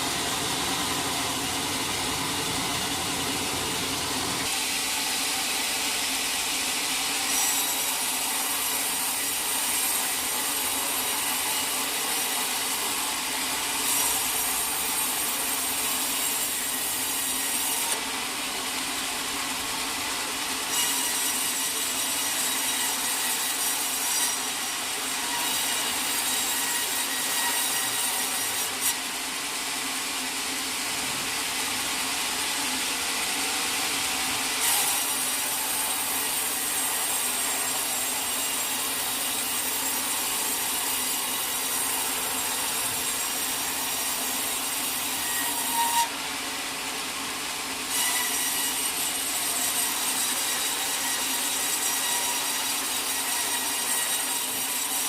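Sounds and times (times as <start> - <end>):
sawmill saw cutting log: 0.0 - 55.0.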